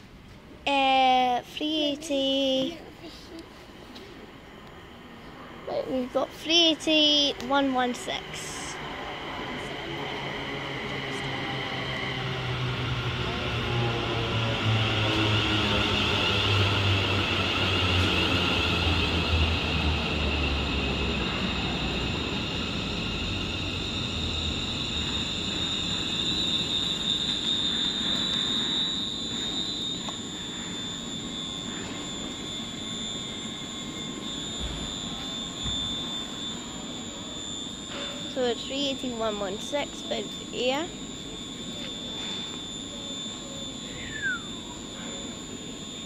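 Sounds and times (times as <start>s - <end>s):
high-pitched whine: 0.0s - 46.0s
electric train braking: 3.7s - 46.0s.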